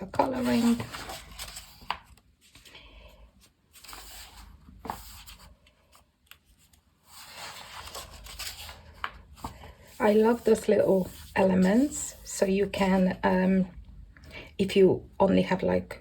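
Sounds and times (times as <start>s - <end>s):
paper pages rustling: 0.0s - 12.9s.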